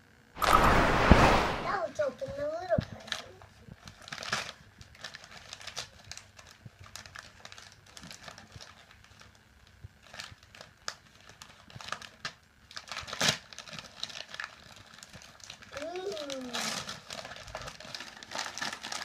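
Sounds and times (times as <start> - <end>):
wrapping paper crinkling: 3.1 - 19.0.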